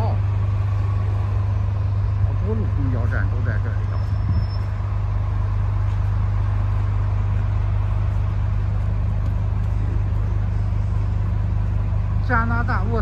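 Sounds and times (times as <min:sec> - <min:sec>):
idling bus and truck engines: 0:00.0 - 0:13.0
traffic rush: 0:00.0 - 0:13.0.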